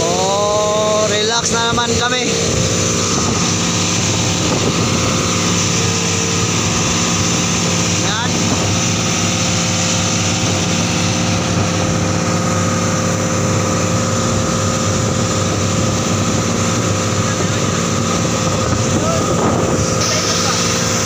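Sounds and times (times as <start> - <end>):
boat engine droning: 0.0 - 21.0
churning wake water: 0.0 - 21.0.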